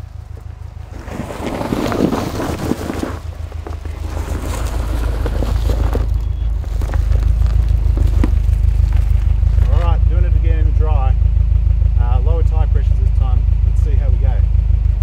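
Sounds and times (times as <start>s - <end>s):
car engine at low speed: 0.0s - 15.0s
tyres on gravel track: 0.0s - 15.0s.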